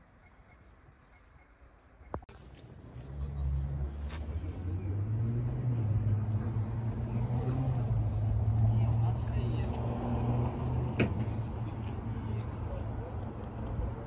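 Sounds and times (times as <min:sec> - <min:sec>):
vehicle engine low rumble: 0:02.3 - 0:14.0.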